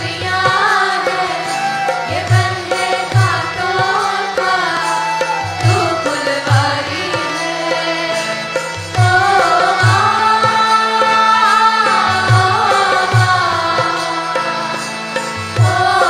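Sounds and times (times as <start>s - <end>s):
hand drum: 0.0s - 16.0s
person singing: 0.0s - 16.0s.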